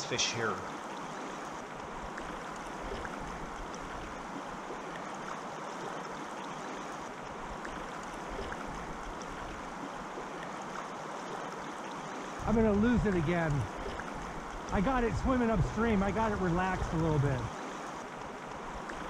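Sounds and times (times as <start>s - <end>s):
shallow river flowing: 0.0s - 19.0s.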